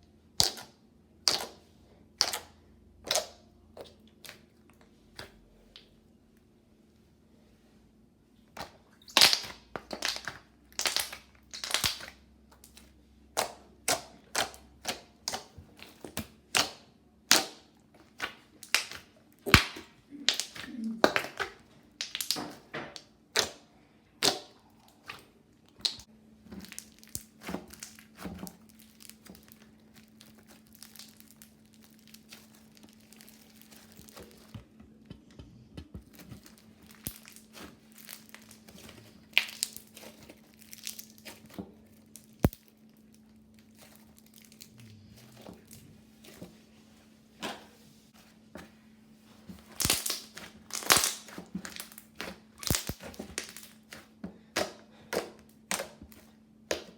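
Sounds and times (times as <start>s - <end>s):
slime squishing and crackling: 0.3s - 5.9s, 8.5s - 34.6s, 36.0s - 46.7s, 49.5s - 56.9s.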